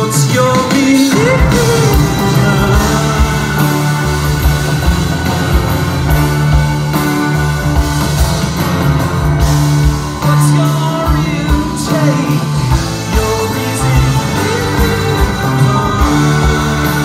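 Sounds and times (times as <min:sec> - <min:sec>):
rock band with orchestra playing: 0:00.0 - 0:17.0
steady drumbeat: 0:00.0 - 0:17.0
sustained bass notes: 0:00.0 - 0:17.0.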